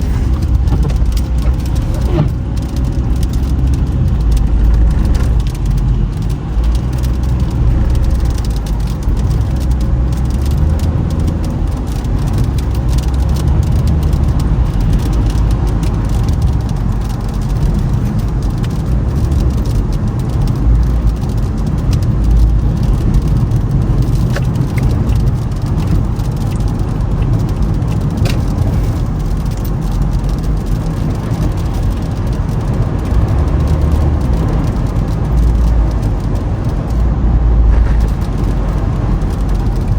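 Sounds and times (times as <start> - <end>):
car road and engine rumble: 0.0 - 39.9
faint clicks: 0.3 - 37.1.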